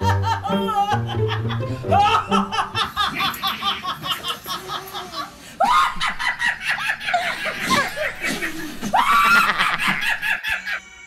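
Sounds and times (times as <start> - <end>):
woman laughing: 0.0 - 10.9.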